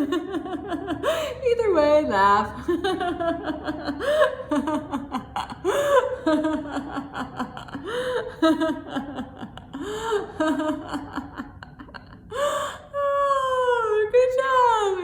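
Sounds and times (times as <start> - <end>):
woman laughing rhythmically: 0.0 - 14.7.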